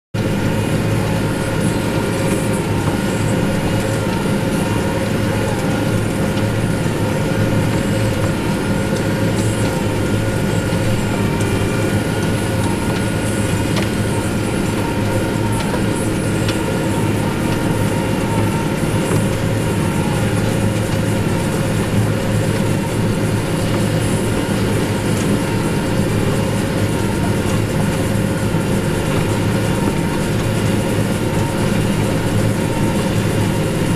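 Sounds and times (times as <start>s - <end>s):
tractor engine under load: 0.2s - 33.9s.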